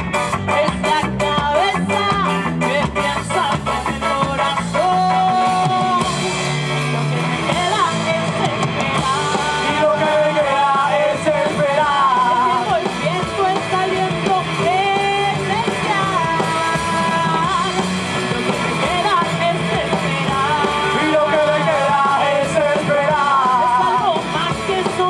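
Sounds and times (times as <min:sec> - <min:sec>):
drums: 0:00.0 - 0:25.0
electric guitars: 0:00.0 - 0:25.0
woman singing into a microphone: 0:00.5 - 0:06.2, 0:07.5 - 0:17.9, 0:18.8 - 0:25.0.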